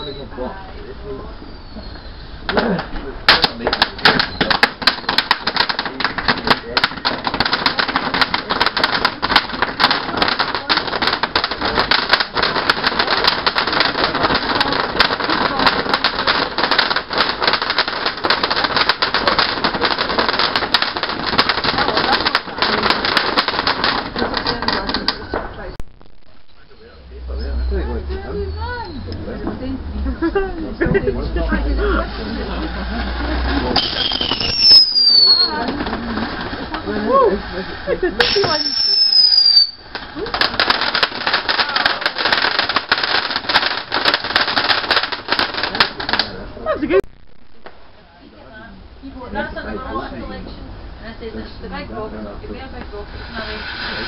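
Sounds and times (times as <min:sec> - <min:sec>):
fireworks crackling: 0:02.3 - 0:29.3, 0:29.9 - 0:48.7, 0:49.3 - 0:54.0.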